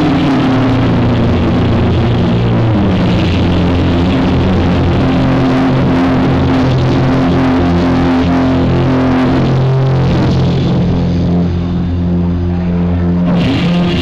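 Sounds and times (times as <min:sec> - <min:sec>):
distorted electric guitar solo: 0:00.0 - 0:14.0.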